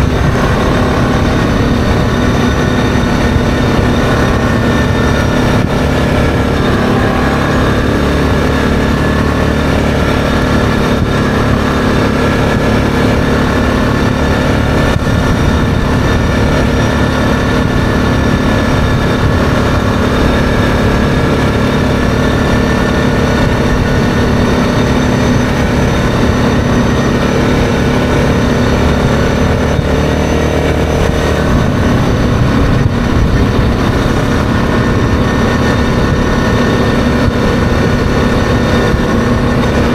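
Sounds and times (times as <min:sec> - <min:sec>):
atv engine running: 0:00.0 - 0:39.9
low rumble from riding: 0:00.0 - 0:39.9.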